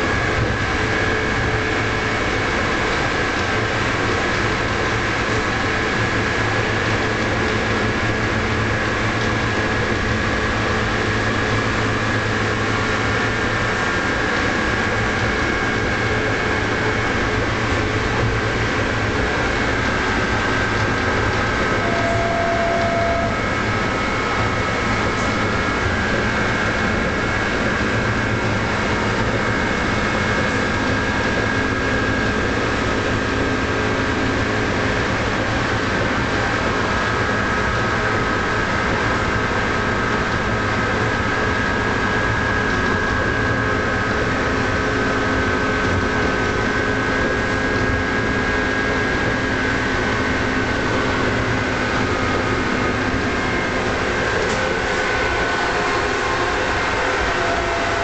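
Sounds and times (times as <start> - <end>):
steady high whine: 0.0 - 58.0
tram wheels rumbling on rails: 0.0 - 58.0.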